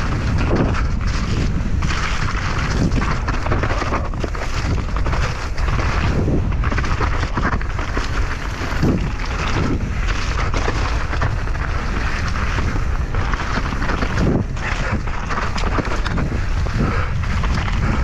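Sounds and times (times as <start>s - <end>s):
low rumble of bike on track: 0.0s - 18.0s
wind buffeting microphone: 0.0s - 18.0s.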